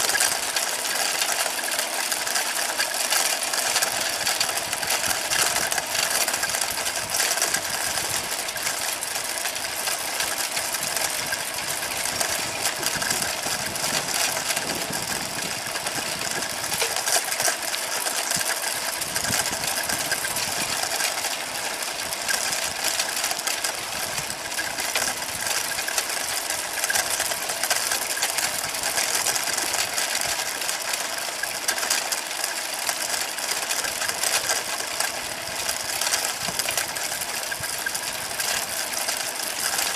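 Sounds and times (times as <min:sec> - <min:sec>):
bicycle parts rattling: 0:00.0 - 0:39.9
bicycle tyres rolling on asphalt: 0:00.0 - 0:39.9.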